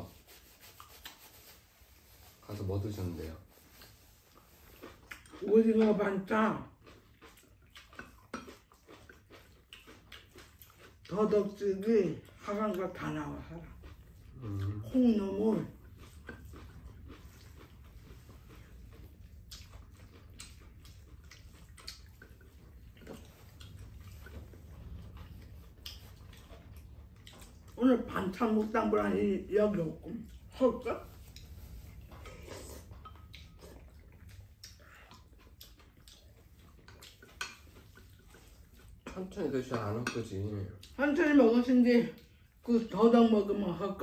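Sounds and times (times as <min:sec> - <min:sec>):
low room hum: 0:00.0 - 0:44.0
soft chewing: 0:00.0 - 0:44.0.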